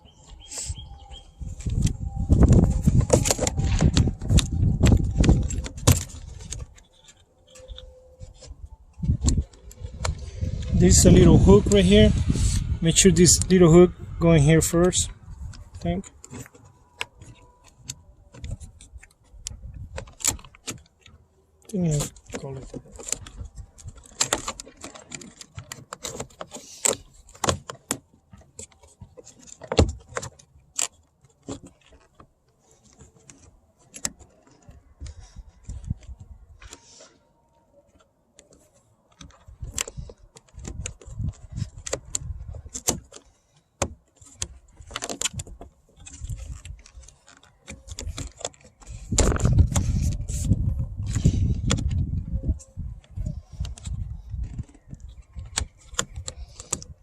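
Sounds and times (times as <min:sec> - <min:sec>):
heavy rumbling handling noise: 0:00.0 - 0:57.0
plastic trim panel clicking and rattling: 0:01.6 - 0:11.9, 0:13.4 - 0:36.9, 0:37.9 - 0:57.0.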